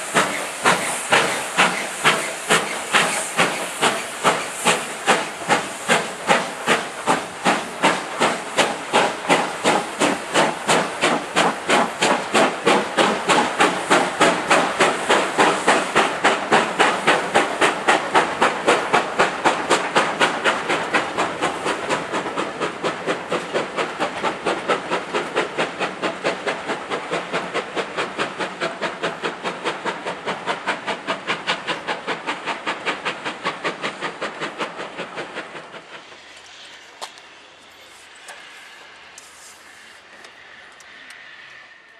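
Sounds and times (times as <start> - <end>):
steam locomotive chuffing: 0.0 - 41.9.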